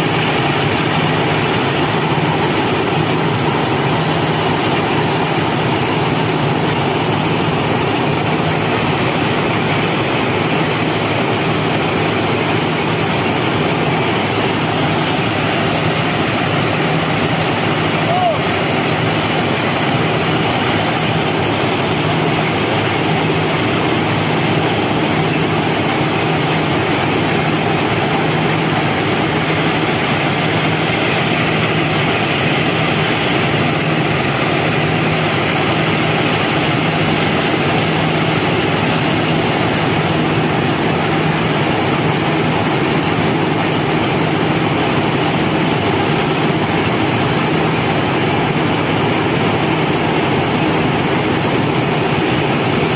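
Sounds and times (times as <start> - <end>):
machinery drone: 0.0 - 52.9.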